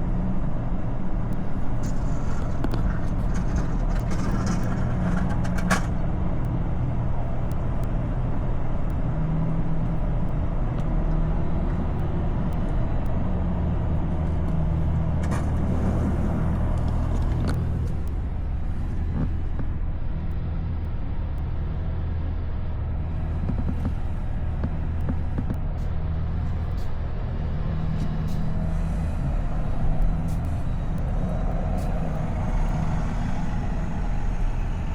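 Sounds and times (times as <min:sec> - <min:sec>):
vehicle engine droning: 0:00.0 - 0:34.9.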